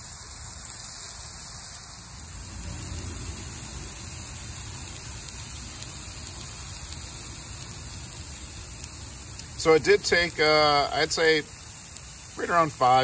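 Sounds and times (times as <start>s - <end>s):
chicken sizzling on grill: 0.0s - 13.0s.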